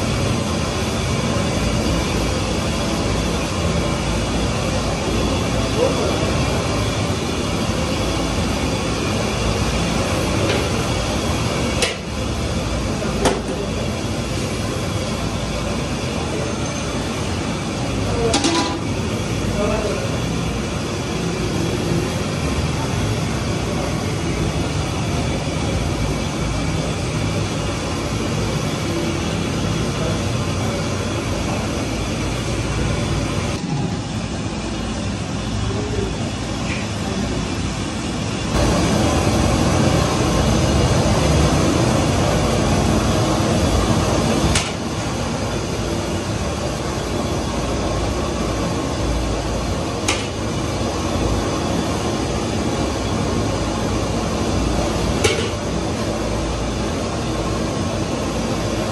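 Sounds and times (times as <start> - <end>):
gas burner roaring: 0.0 - 58.9.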